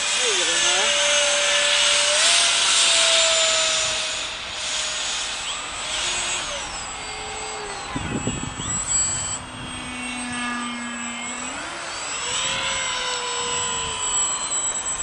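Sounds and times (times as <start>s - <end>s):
model jet electric motor whining: 0.0s - 15.0s.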